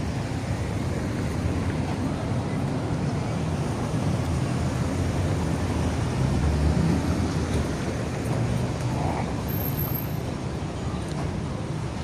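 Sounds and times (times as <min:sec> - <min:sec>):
car traffic rumble: 0:00.0 - 0:12.0.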